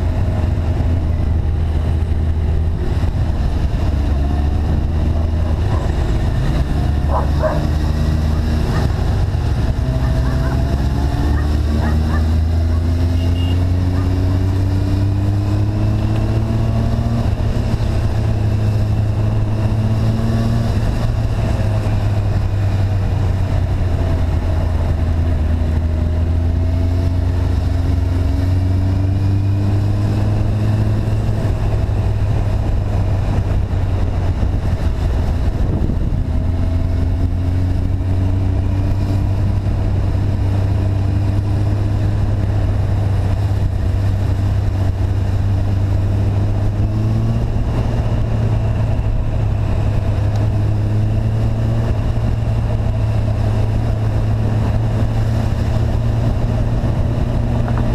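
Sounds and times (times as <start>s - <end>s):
motorcycle engine droning: 0.0s - 57.9s.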